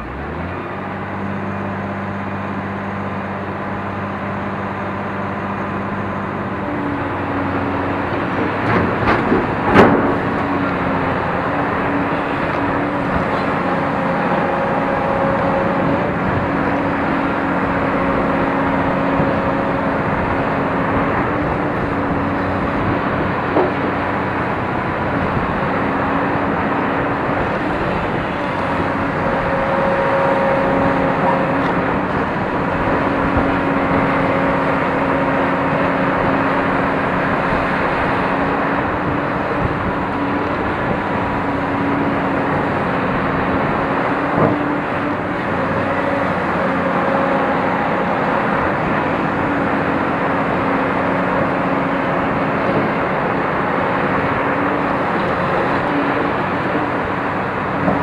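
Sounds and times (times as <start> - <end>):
diesel engine under load: 0.0 - 58.0
hydraulic whine: 0.0 - 58.0.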